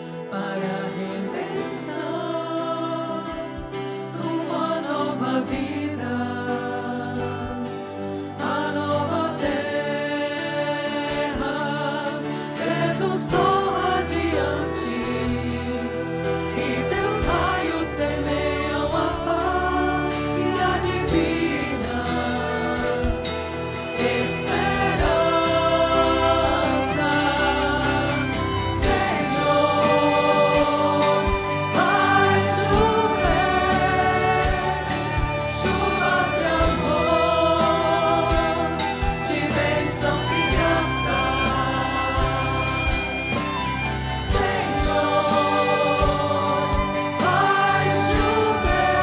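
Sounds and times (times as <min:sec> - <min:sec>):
group singing: 0:00.0 - 0:49.0
keyboard accompaniment: 0:00.0 - 0:49.0
women singing a hymn: 0:00.0 - 0:49.0.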